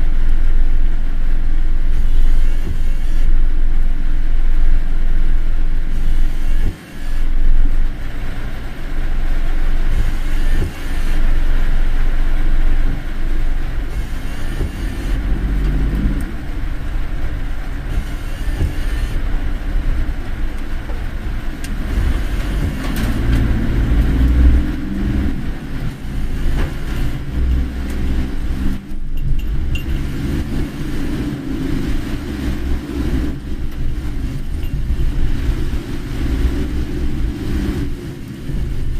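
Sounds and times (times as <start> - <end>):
car engine rumble: 0.0 - 38.9.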